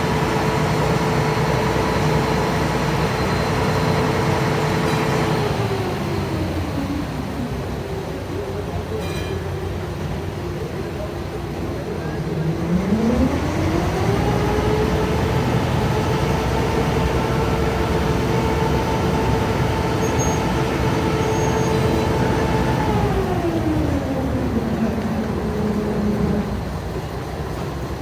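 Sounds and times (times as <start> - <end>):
ferry engine droning: 0.0 - 28.0.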